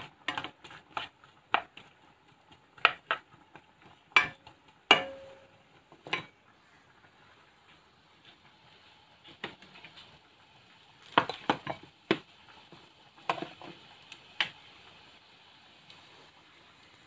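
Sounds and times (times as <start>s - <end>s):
onions frying in a pan: 0.0s - 17.0s.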